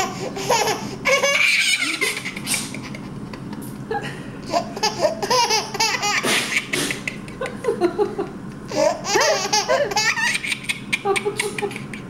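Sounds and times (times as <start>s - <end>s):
young child laughing: 0.0s - 12.0s.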